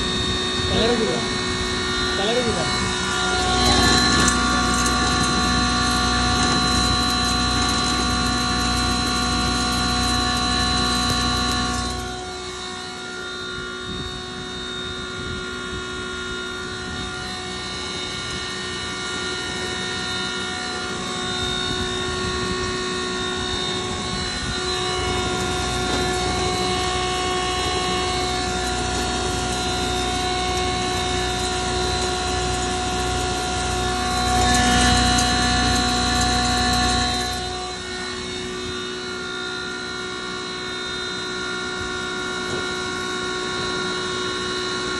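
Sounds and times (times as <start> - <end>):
grinding machine droning: 0.0 - 44.9
machine whining tones: 0.0 - 44.9.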